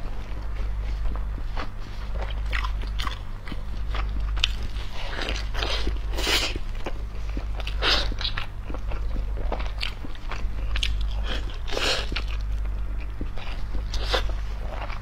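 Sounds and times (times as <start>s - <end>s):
low electrical hum: 0.0s - 15.0s
person chewing and smacking: 0.2s - 15.0s.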